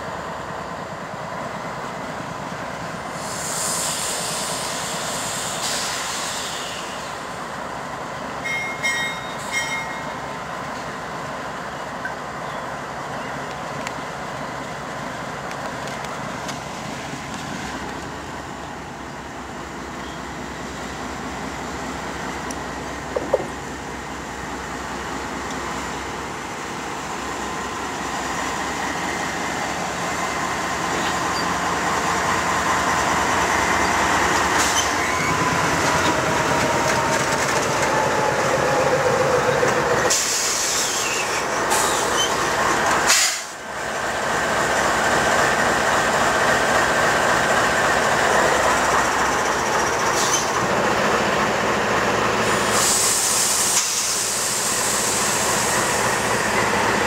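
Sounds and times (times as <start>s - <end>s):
locomotive engine rumble: 0.0s - 57.0s
train wheel noise: 0.0s - 57.0s.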